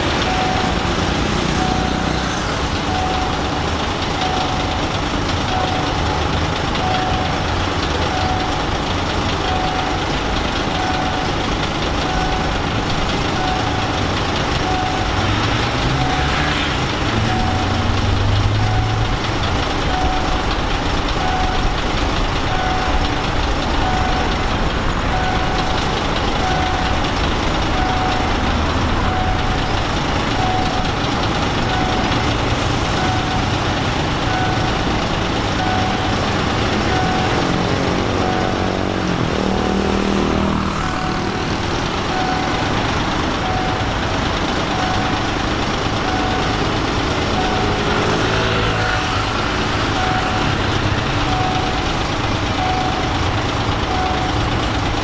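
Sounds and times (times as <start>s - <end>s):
level crossing warning tone: 0.0s - 55.0s
road traffic noise: 0.0s - 55.0s
vehicle engine: 0.0s - 55.0s.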